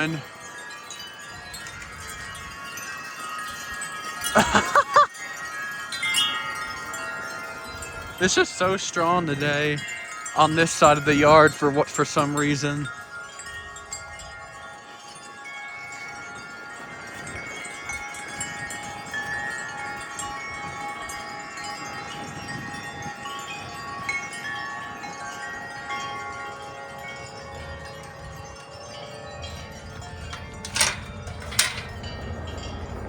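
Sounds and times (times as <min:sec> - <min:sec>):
wind chimes ringing: 0:00.0 - 0:33.0.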